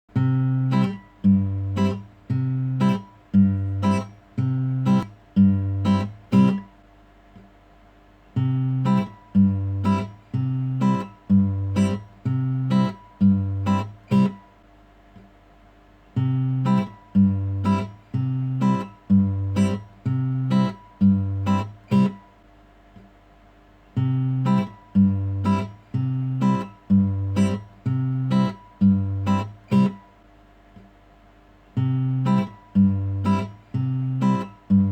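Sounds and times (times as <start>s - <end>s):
acoustic guitar strumming: 0.1s - 6.8s, 8.4s - 14.6s, 16.2s - 22.4s, 24.0s - 30.2s, 31.8s - 34.9s.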